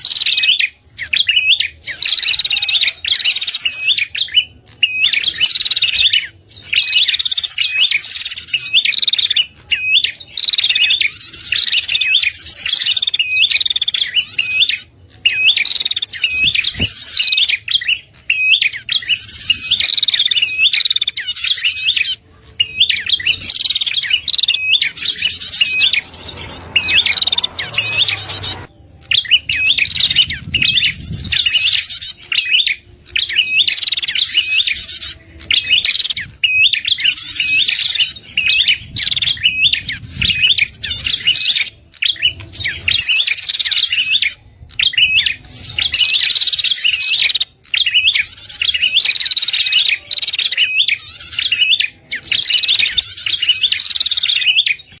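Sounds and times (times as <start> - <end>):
bird sharp chirping calls: 0.0 - 55.0.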